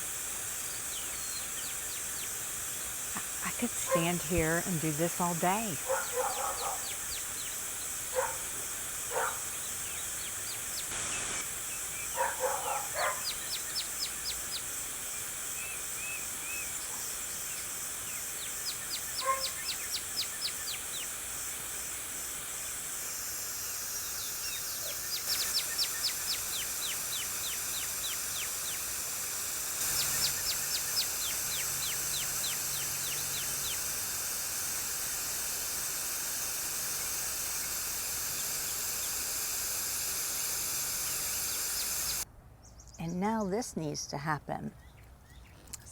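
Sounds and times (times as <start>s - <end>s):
garden hose spraying water: 0.0s - 42.3s, 44.9s - 45.9s
small birds chirping trills: 0.0s - 43.5s, 44.7s - 45.9s.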